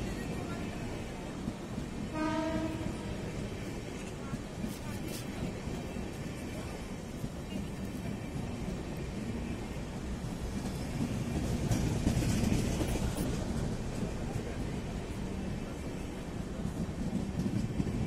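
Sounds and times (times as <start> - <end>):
train coaches rolling past: 0.0 - 18.0.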